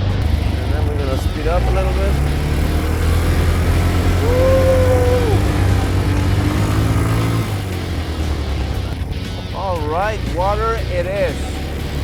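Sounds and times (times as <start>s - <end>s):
atv engine droning: 0.0s - 12.0s
long held call: 0.5s - 11.9s.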